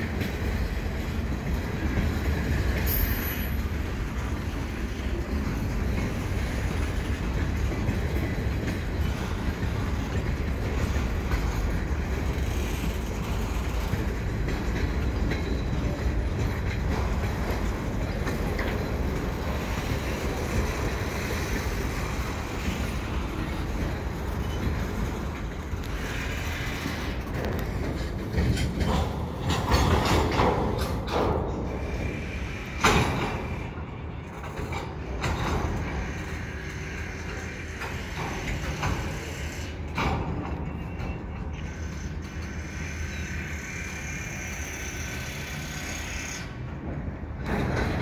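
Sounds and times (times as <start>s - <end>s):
freight cars rumbling on track: 0.0s - 48.0s.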